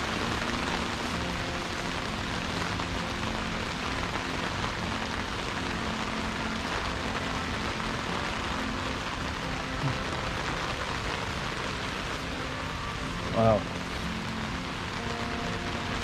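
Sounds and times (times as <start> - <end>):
heavy rain on umbrella: 0.0 - 16.0.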